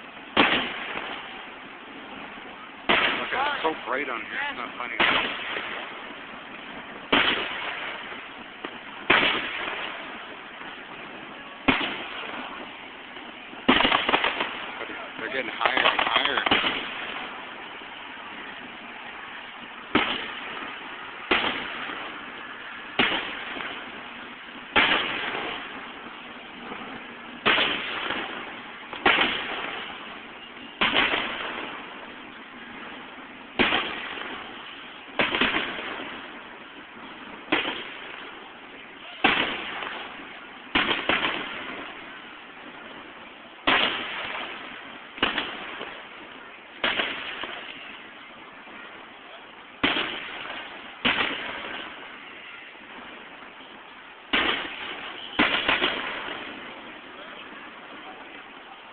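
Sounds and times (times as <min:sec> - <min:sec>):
fireworks bursting with rumbling echo: 0:00.0 - 0:58.9.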